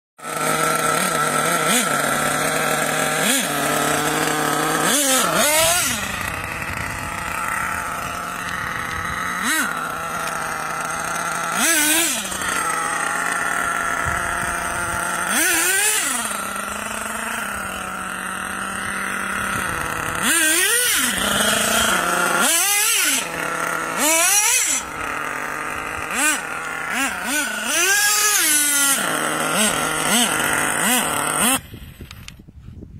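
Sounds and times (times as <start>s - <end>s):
nitro engine revving: 0.2s - 32.4s.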